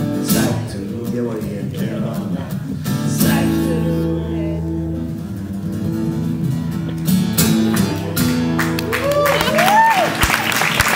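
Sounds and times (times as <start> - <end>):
acoustic guitar chord strummed: 0.0 - 9.0.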